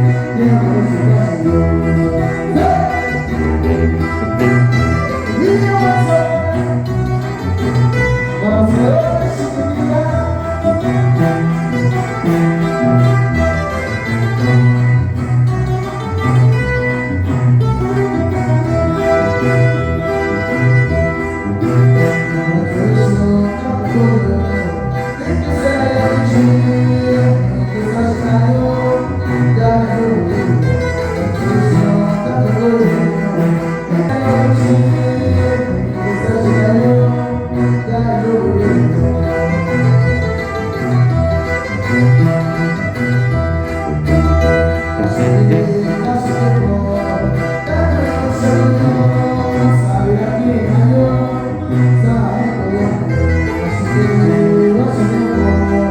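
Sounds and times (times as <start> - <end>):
tuba band playing: 0.0 - 55.9.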